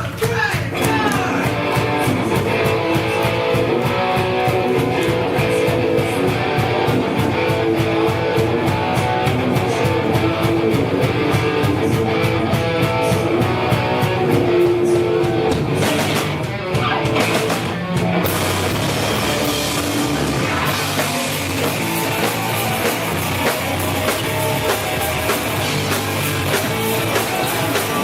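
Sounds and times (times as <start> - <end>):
steady drum beat: 0.0 - 28.0
rock guitars playing: 0.5 - 28.0.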